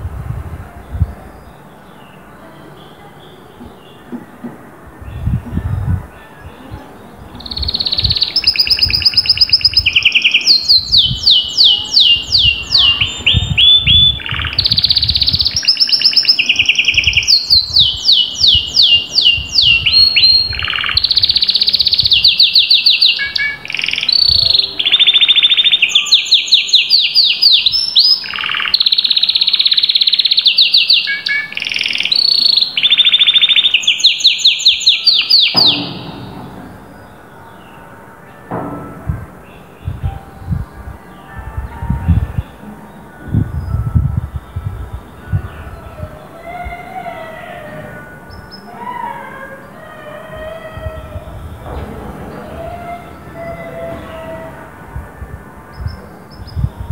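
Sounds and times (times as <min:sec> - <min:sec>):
canary singing trills: 0:00.8 - 0:38.8, 0:39.4 - 0:56.9.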